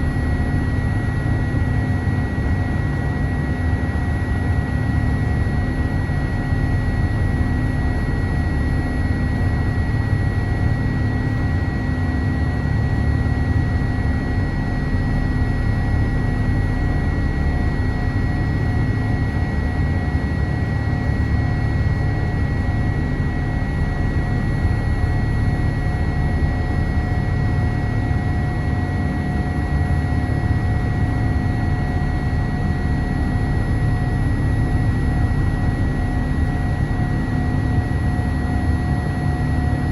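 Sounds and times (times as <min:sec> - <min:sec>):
engine and airflow rumble: 0:00.0 - 0:39.9
high whine and hum: 0:00.0 - 0:39.9.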